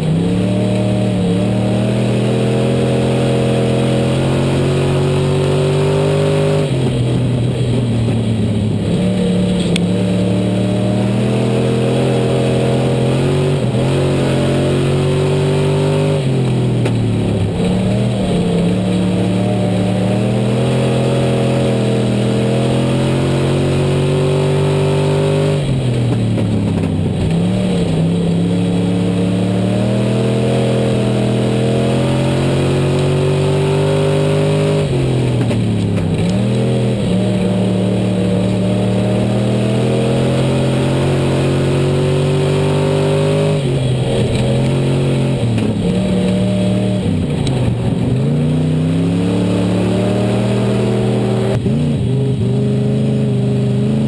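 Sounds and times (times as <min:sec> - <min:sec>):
racing car engine: 0:00.0 - 0:54.0.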